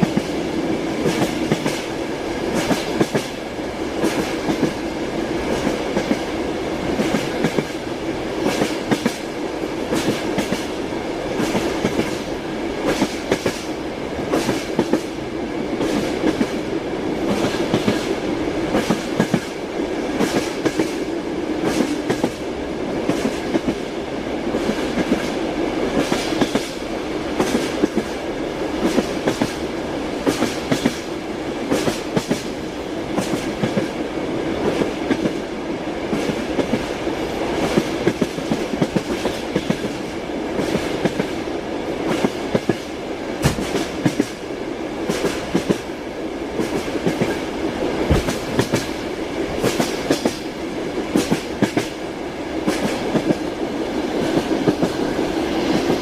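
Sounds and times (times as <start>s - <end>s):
moving train rumble: 0.0s - 56.0s
train wheels clicking over joints: 1.0s - 3.4s, 4.0s - 15.2s, 17.2s - 23.9s, 24.5s - 28.2s, 28.8s - 34.0s, 36.0s - 52.0s, 52.6s - 56.0s.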